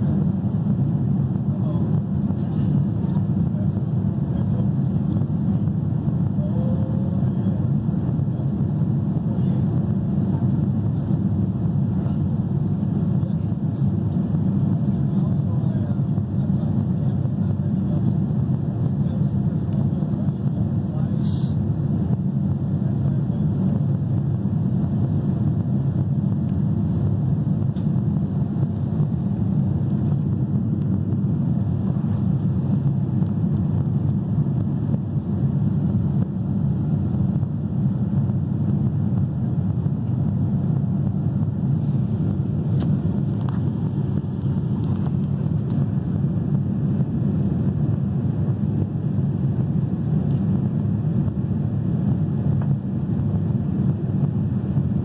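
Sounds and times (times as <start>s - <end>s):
airflow over fuselage: 0.0s - 55.0s
low rumble of jet engines: 0.0s - 55.0s.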